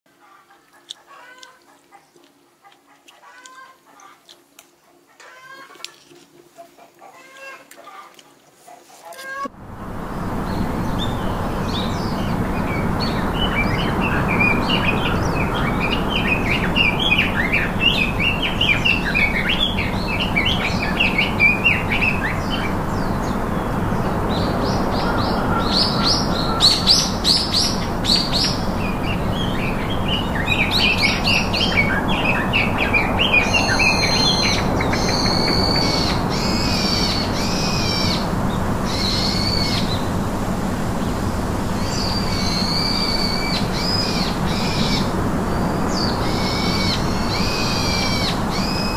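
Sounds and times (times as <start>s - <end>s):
steady background hiss: 0.1s - 48.9s
wild birds chirping and singing: 0.2s - 48.9s.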